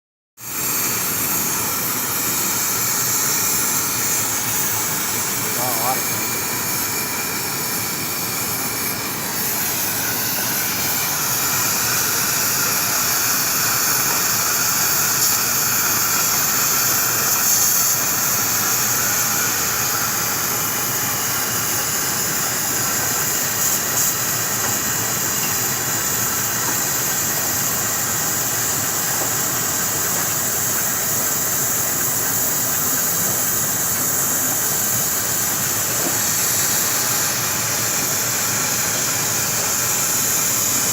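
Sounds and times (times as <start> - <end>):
cutting torch hissing: 0.4 - 40.9.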